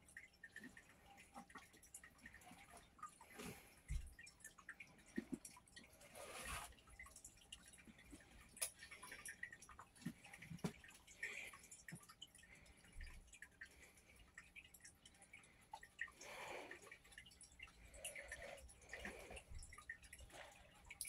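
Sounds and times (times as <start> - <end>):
small clicks and ticks: 0.0 - 21.0.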